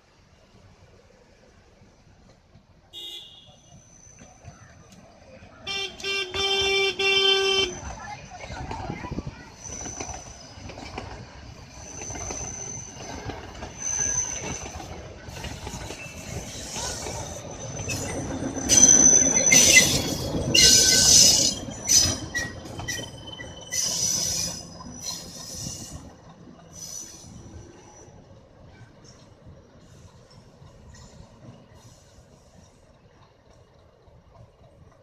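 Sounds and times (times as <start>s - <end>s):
diesel locomotive engine: 0.0s - 35.0s
train wheels squealing on rails: 3.4s - 5.6s, 6.3s - 33.6s
train running past: 3.6s - 35.0s.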